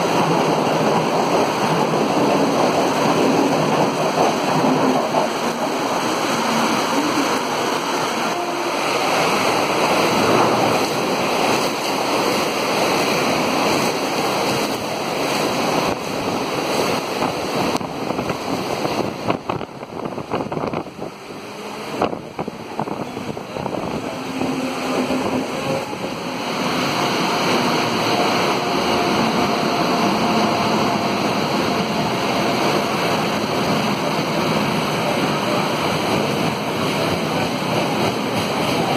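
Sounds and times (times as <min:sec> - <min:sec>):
heavy rain: 0:00.0 - 0:38.9
trains rushing past: 0:00.0 - 0:38.9.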